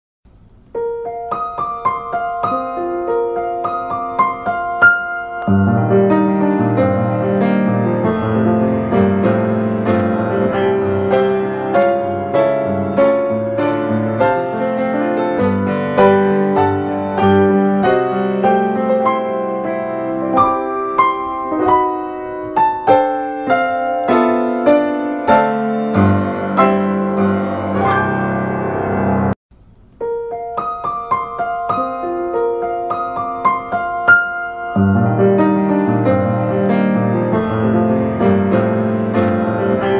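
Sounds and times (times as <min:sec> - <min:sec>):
piano music: 0:00.3 - 0:39.9.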